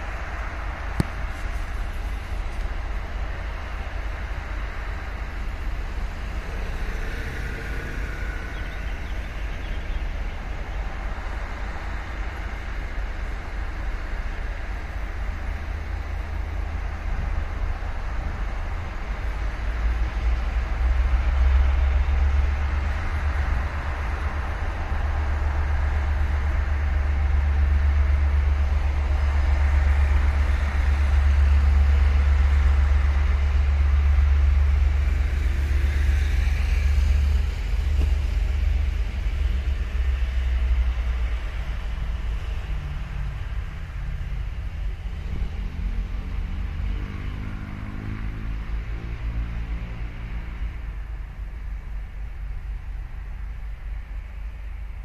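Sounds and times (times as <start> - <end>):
distant train rumbling: 0.0 - 55.0.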